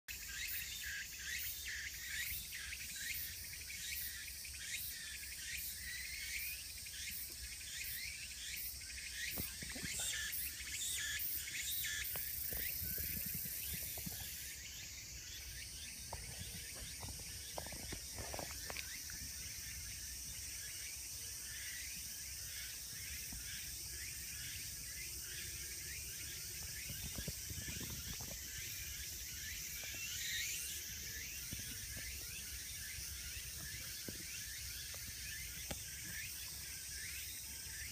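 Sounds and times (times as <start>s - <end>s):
insects chirring: 0.1s - 37.9s.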